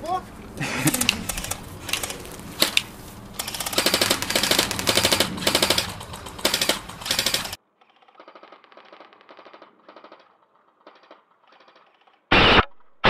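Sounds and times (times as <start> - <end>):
airsoft guns firing: 0.8 - 12.7.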